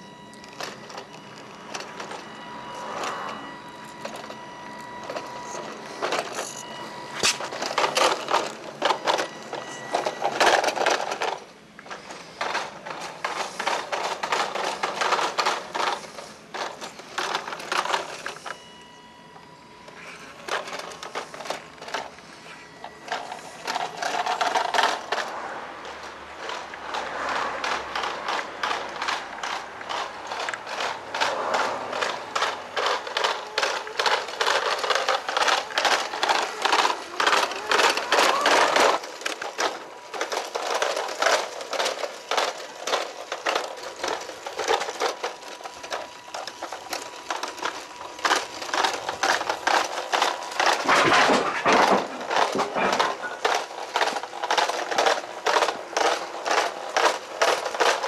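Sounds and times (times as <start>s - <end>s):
toy vehicle gearbox clicking: 0.0s - 58.0s.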